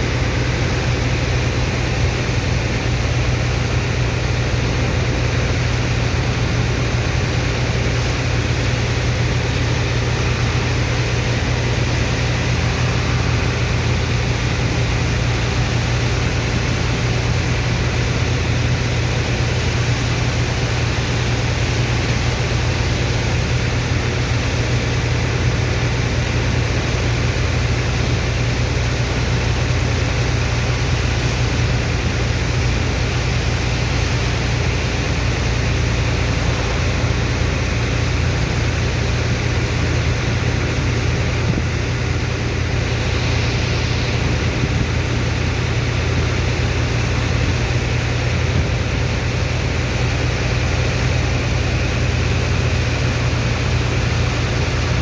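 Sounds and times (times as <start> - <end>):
engine low drone: 0.0 - 55.0
pump rushing noise: 0.0 - 55.0.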